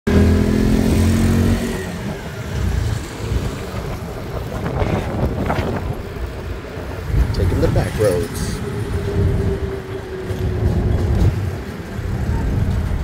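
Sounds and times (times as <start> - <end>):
wind rumble: 0.8 - 13.0.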